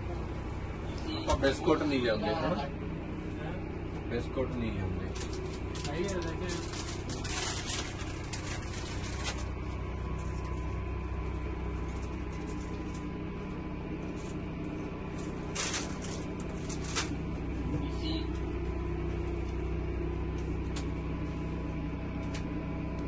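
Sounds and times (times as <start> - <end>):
engine and road drone: 0.0 - 23.0.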